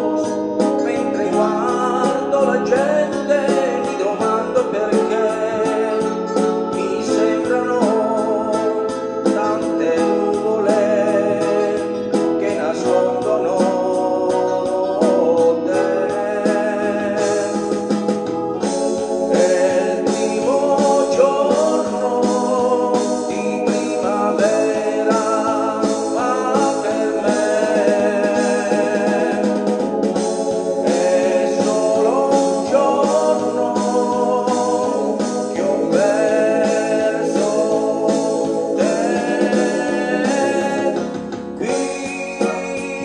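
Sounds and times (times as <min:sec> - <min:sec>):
backing track with keyboard and beat: 0:00.0 - 0:43.0
man singing into a microphone: 0:00.0 - 0:43.0.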